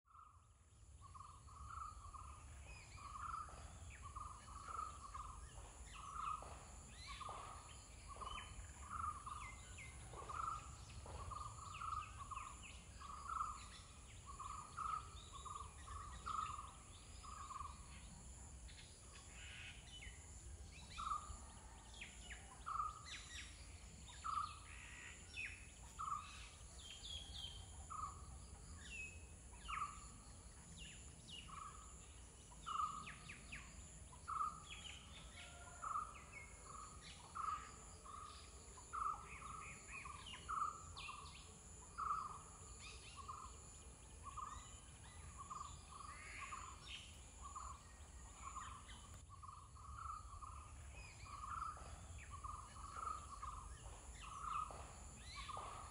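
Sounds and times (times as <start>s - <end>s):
steady high-pitched hiss: 0.1s - 55.9s.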